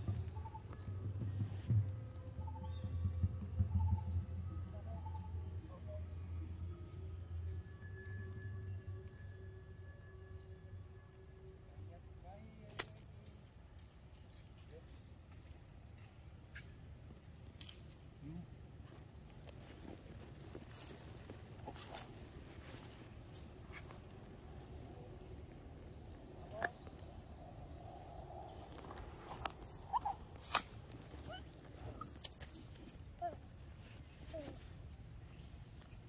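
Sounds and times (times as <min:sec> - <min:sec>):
bird chirping: 0:00.0 - 0:36.0.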